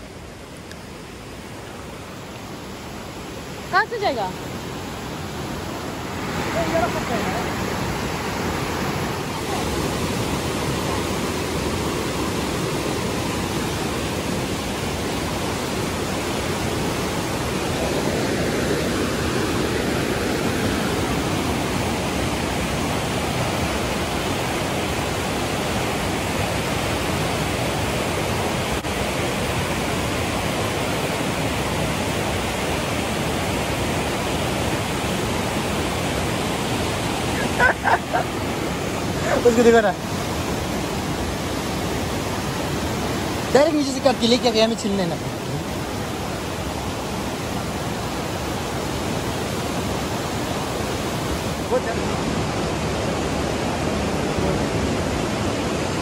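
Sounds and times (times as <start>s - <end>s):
river rushing over boulders: 0.0s - 56.0s.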